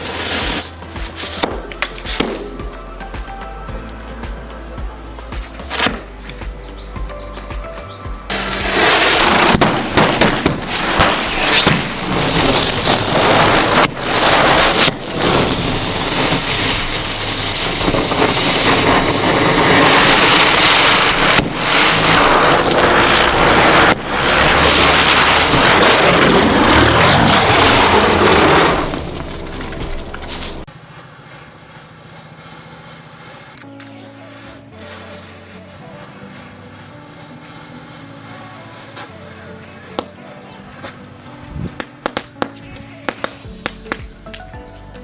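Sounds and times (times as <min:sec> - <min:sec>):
firework hissing: 0:00.0 - 0:45.0.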